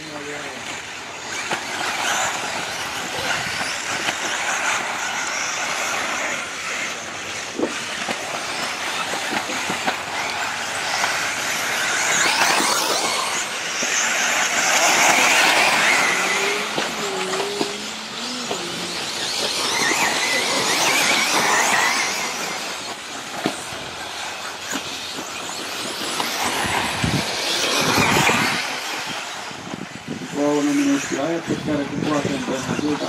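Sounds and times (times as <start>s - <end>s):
rc cars racing on dirt: 0.0s - 33.0s.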